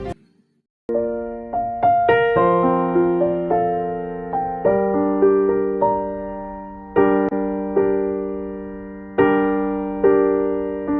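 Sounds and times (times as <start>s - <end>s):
slow piano chords: 0.9s - 10.9s.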